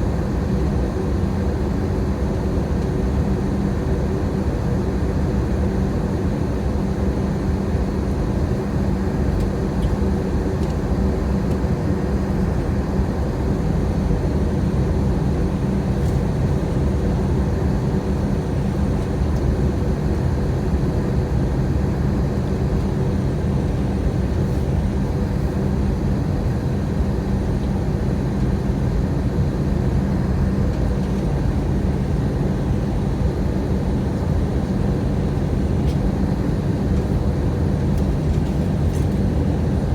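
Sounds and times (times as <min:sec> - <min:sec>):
aircraft drone in flight: 0:00.0 - 0:39.9.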